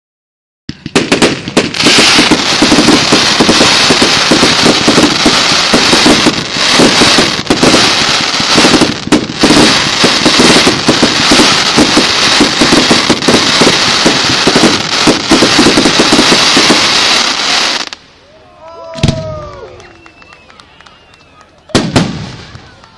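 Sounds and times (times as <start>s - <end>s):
fireworks crackling bangs: 0.7s - 18.2s, 21.6s - 22.9s.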